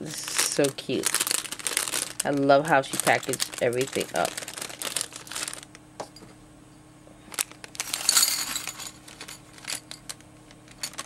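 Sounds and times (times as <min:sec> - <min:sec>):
crinkly wrapping rustle: 0:00.0 - 0:05.8, 0:07.3 - 0:11.0
small items clicking and clinking: 0:00.3 - 0:05.7, 0:07.3 - 0:11.0.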